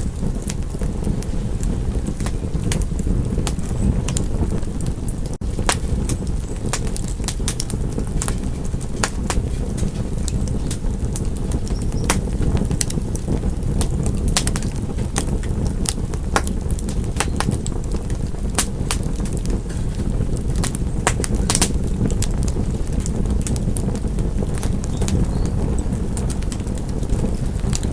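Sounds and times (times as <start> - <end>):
low rumble: 0.0 - 27.9
wood fire crackling and popping: 0.0 - 27.9.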